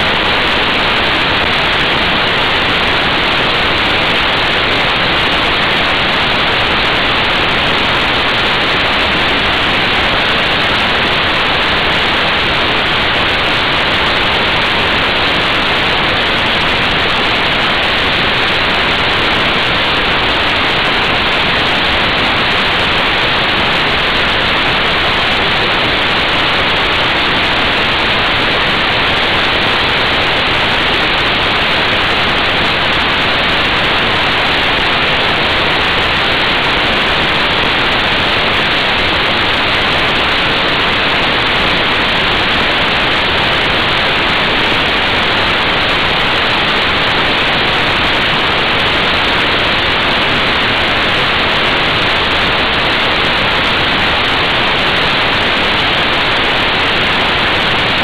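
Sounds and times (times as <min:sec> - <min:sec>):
wind rush on microphone: 0:00.0 - 0:58.0.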